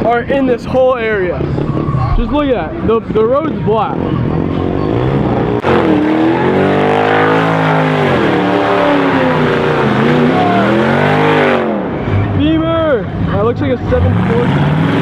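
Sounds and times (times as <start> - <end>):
car engine revving hard: 0.4 - 15.0.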